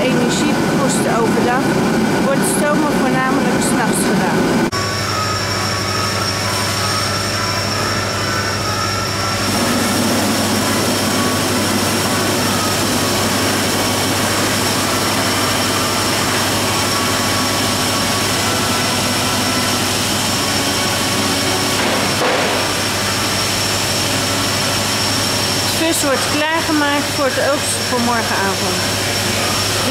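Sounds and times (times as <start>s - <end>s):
machine low hum: 0.0s - 29.9s.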